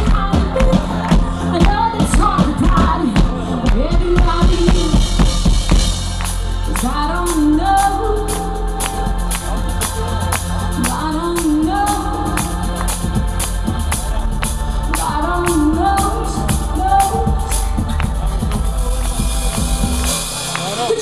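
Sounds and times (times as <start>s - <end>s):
woman singing into a microphone: 0.0s - 5.6s, 6.6s - 18.6s
drum kit: 0.0s - 21.0s.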